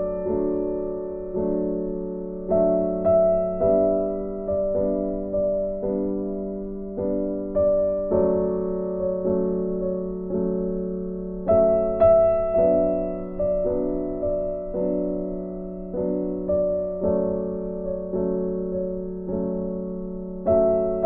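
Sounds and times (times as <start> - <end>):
slow gentle keyboard music: 0.0 - 21.0.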